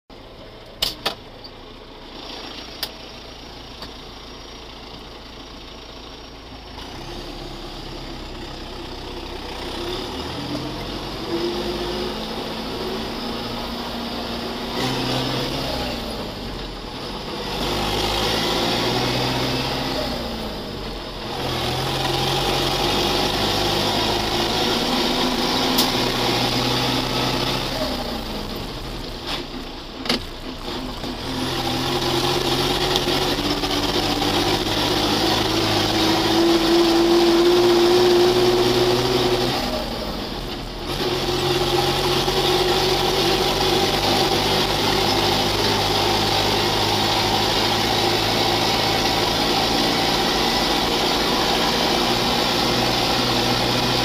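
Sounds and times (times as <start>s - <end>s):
tractor engine accelerating: 0.1s - 54.0s.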